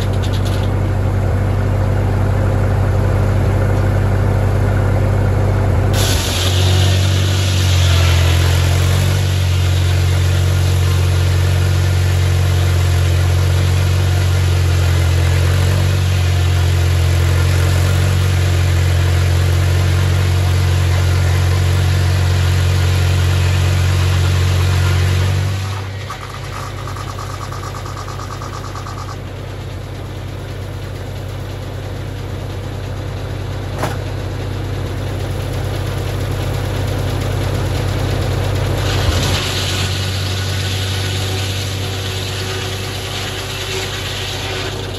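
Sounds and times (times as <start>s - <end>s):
sawmill cutting log: 0.0s - 44.9s
tractor engine running under load: 0.0s - 44.9s.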